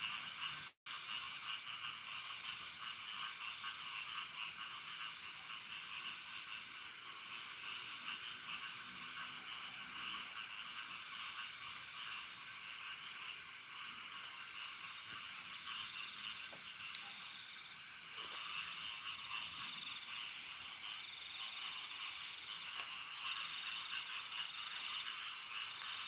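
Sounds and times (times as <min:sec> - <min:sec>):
frogs calling: 0:00.0 - 0:26.0.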